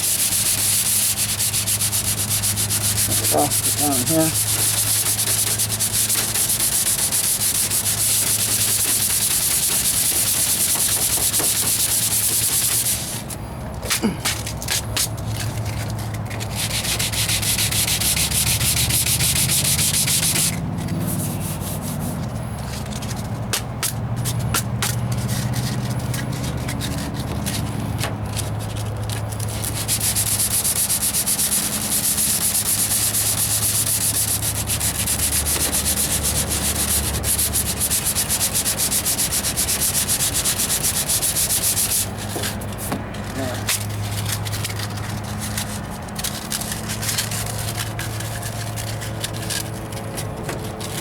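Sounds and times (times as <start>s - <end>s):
sandpaper rubbing on metal: 0.0s - 13.4s, 14.0s - 51.0s.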